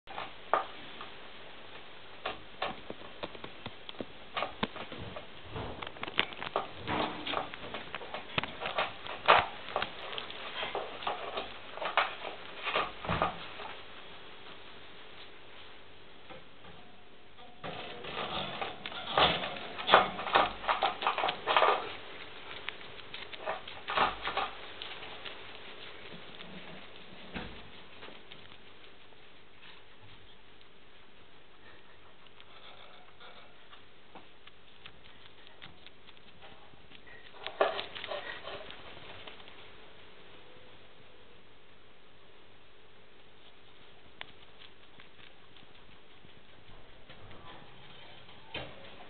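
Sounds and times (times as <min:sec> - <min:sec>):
guinea pig chewing lettuce: 0:01.8 - 0:49.0.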